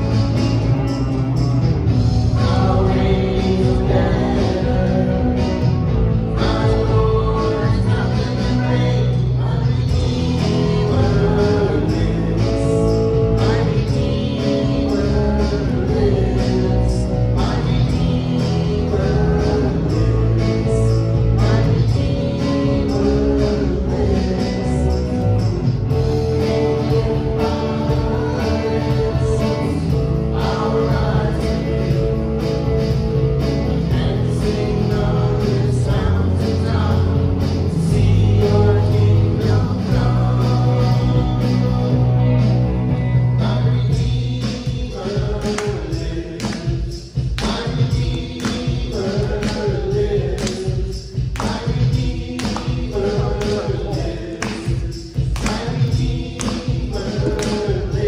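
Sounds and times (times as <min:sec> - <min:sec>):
band playing worship music: 0:00.0 - 0:58.0
guitar: 0:00.0 - 0:58.0
people singing: 0:00.0 - 0:58.0.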